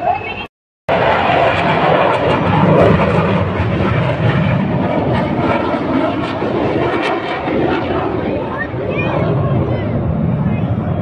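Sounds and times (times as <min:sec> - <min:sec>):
jet aircraft roar overhead: 0:00.0 - 0:11.0.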